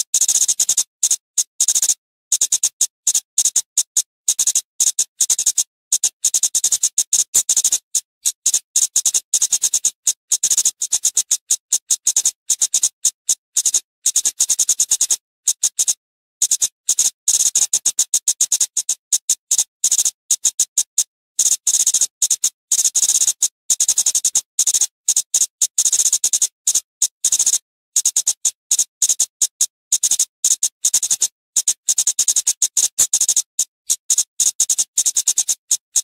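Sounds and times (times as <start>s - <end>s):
bird calling with ticking notes: 0.0s - 36.0s.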